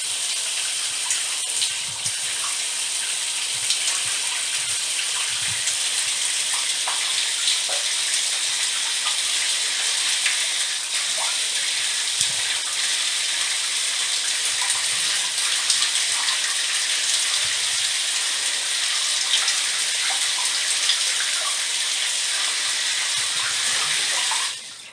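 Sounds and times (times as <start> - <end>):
shower water spraying and splashing: 0.0 - 24.9.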